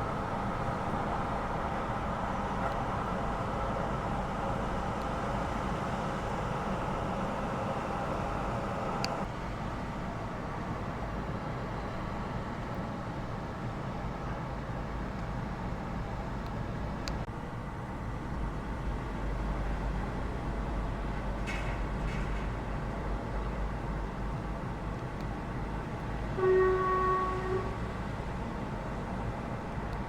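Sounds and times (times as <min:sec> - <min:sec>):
traffic on a wet road: 0:00.0 - 0:30.0.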